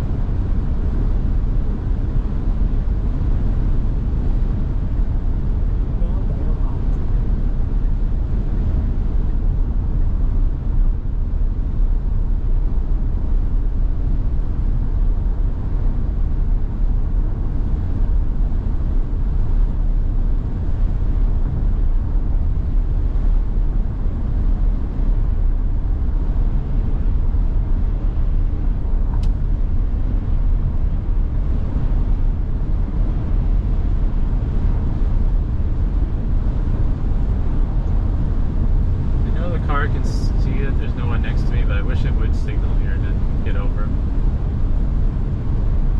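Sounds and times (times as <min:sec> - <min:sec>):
car cabin road and wind rumble: 0:00.0 - 0:45.9.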